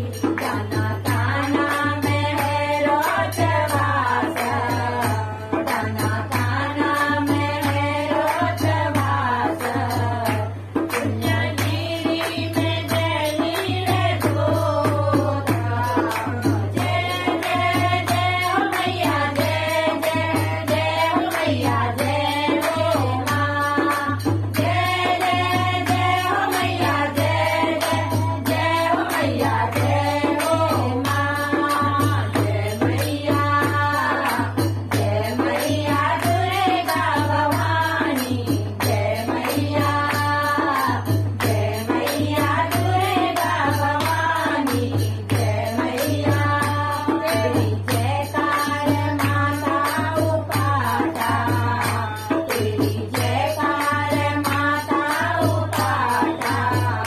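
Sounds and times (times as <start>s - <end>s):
barrel drum beat: 0.0s - 57.0s
women singing together: 0.0s - 57.0s
hand-clapping: 7.6s - 57.0s.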